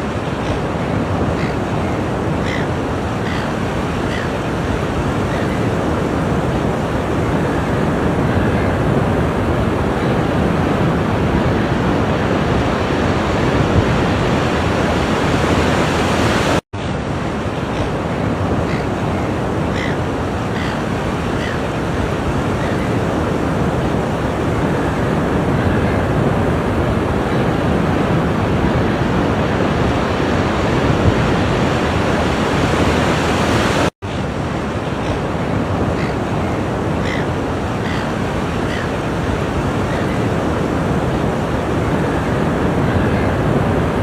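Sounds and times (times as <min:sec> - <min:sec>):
ocean surf rushing onto shore: 0:00.0 - 0:44.0.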